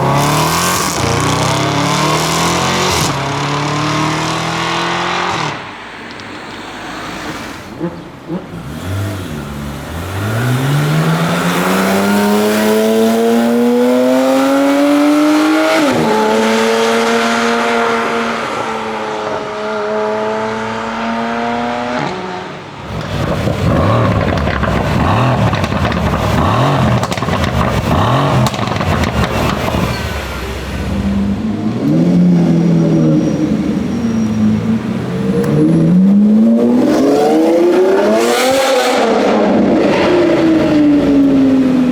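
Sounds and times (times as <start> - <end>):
car engine accelerating hard: 0.0 - 5.7, 7.8 - 41.9.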